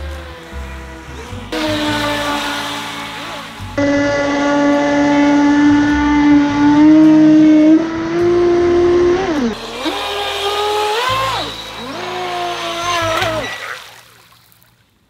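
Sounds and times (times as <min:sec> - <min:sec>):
model speedboat motor whining: 0:00.0 - 0:14.4.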